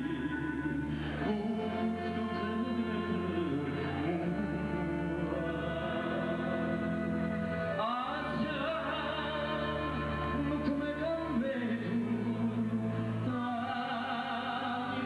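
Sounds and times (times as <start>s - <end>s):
man singing into a microphone: 0.0s - 7.1s, 7.7s - 15.0s
sustained keyboard chords: 0.0s - 13.6s.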